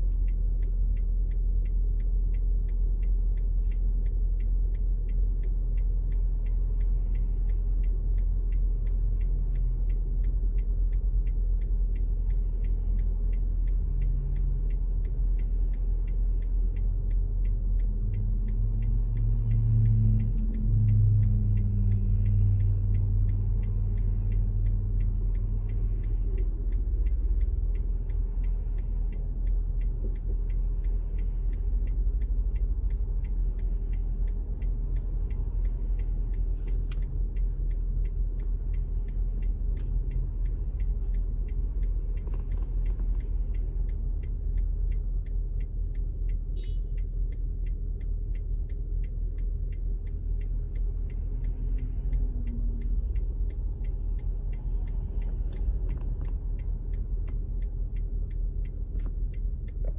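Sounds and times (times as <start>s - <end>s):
car engine idling: 0.0s - 59.9s
turn indicator ticking: 0.0s - 59.9s.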